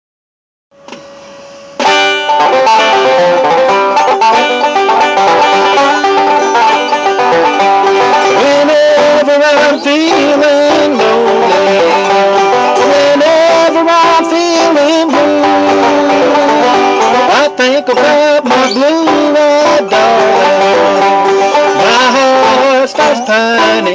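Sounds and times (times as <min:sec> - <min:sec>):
banjo picking: 0:01.8 - 0:23.9
bluegrass band playing: 0:01.8 - 0:23.9.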